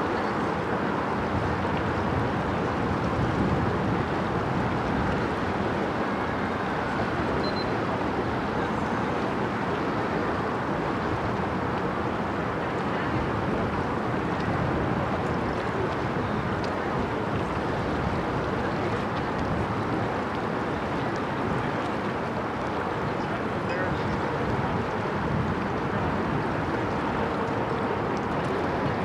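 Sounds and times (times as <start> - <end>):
cargo ship engine: 0.0 - 29.0
river water: 0.0 - 29.0
wind: 0.0 - 29.0.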